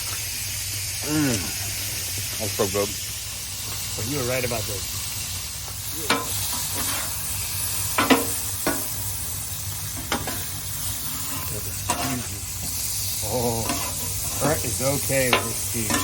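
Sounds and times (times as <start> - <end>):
food sizzling on a griddle: 0.0 - 16.0.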